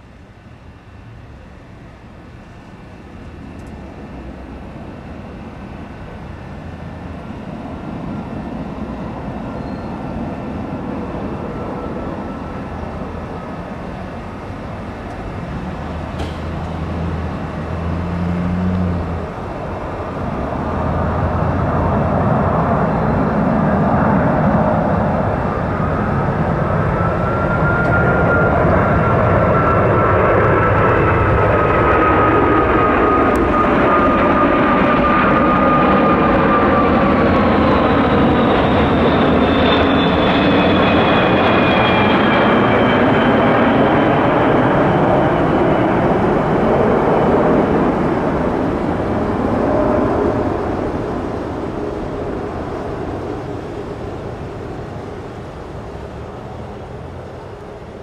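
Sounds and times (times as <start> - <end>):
jet engine whines sliding down: 0.0 - 58.0
jet roar passing overhead: 3.0 - 58.0.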